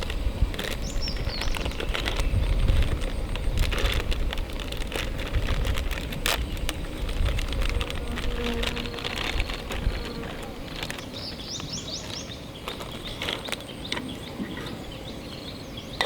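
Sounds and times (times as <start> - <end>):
campfire crackling and popping: 0.0 - 13.7
wind rumble on microphone: 0.0 - 15.4.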